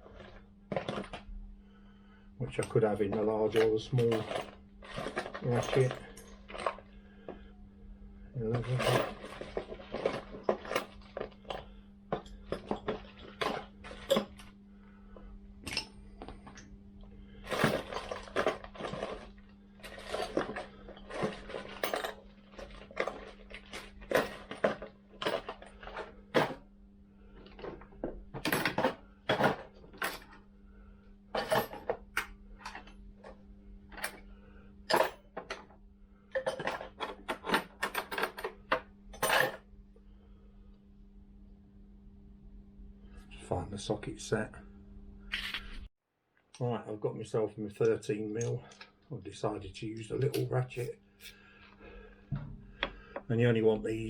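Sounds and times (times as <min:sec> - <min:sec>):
steady low hum: 0:00.0 - 0:45.9, 0:46.6 - 0:54.0.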